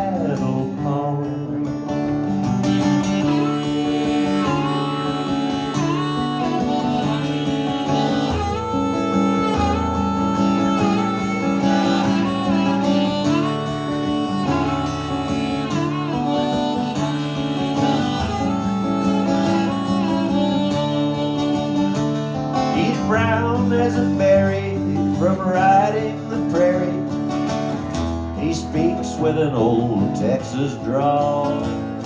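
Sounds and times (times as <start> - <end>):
guitar chords: 0.0 - 32.0
sliding lead melody: 0.0 - 32.0.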